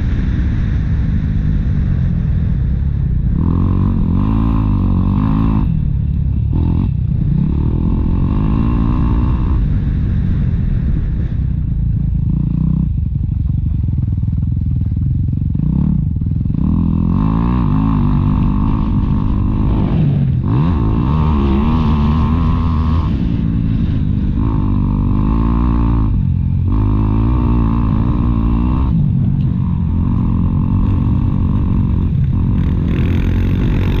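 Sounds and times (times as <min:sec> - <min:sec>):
motocross bike engine revving: 0:02.5 - 0:11.4, 0:15.3 - 0:34.0.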